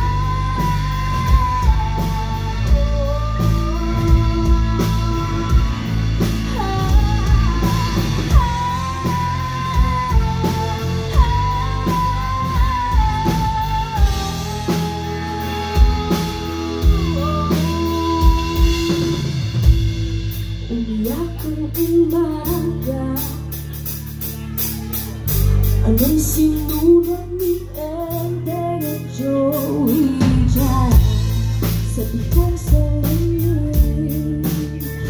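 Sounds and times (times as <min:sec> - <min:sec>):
drum kit beat: 0:00.0 - 0:35.0
guitars: 0:00.0 - 0:35.0.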